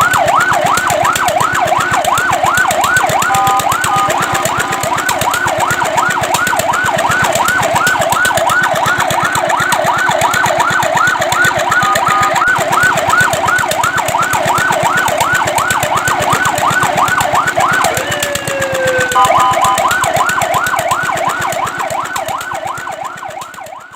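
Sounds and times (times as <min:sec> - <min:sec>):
fire truck siren yelp: 0:00.0 - 0:23.9.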